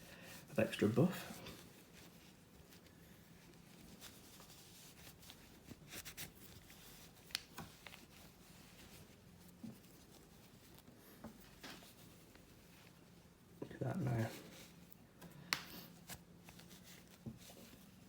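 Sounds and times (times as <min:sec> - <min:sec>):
cloth rubbing: 0:00.4 - 0:15.0, 0:15.8 - 0:18.0
light clicks and scuffs: 0:01.1 - 0:13.3, 0:14.1 - 0:18.0.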